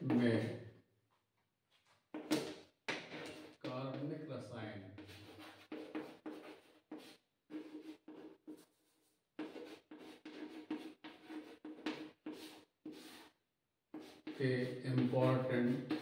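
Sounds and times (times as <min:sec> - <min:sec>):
chalk scratching on chalkboard: 0:02.1 - 0:04.0, 0:05.0 - 0:16.0.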